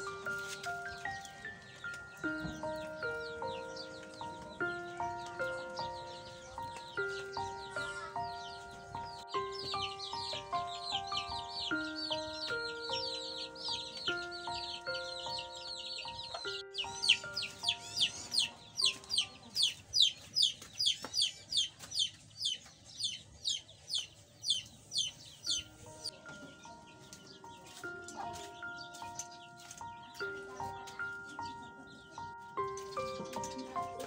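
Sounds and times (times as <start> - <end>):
chicks peeping: 0.0 - 34.0
light background melody: 0.0 - 34.0.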